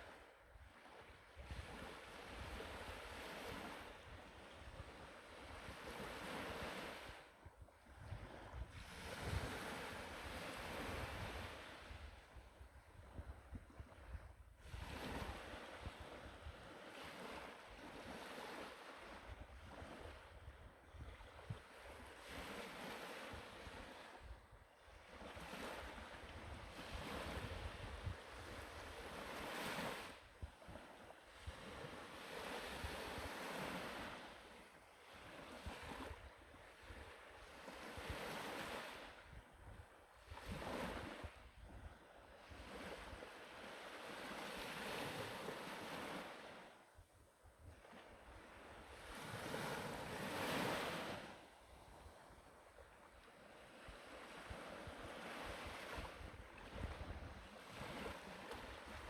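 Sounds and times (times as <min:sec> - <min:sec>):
wind rumbling on microphone: 0:00.0 - 0:34.3, 0:35.2 - 0:43.4, 0:53.7 - 0:59.0
waves breaking on shore: 0:00.0 - 0:46.9, 0:47.6 - 0:59.0.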